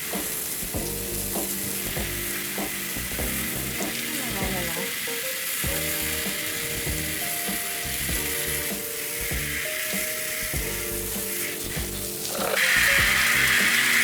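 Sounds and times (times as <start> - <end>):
background music with steady beat: 0.0 - 14.0
spray hissing: 0.0 - 14.0.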